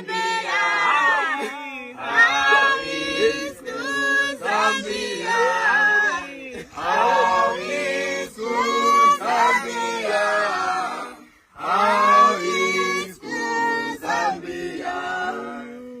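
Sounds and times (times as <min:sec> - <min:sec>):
voices singing unaccompanied: 0:00.0 - 0:16.0.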